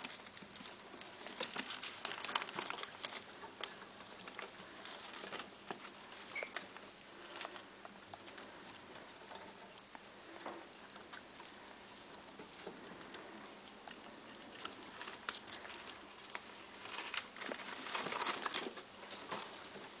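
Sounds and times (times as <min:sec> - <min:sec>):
rats chewing and scrabbling: 0:00.0 - 0:20.0.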